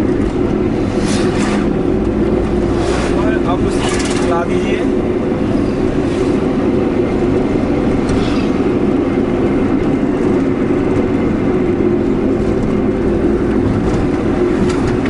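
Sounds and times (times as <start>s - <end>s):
car engine droning: 0.0s - 15.0s
tyres on the road: 0.0s - 15.0s.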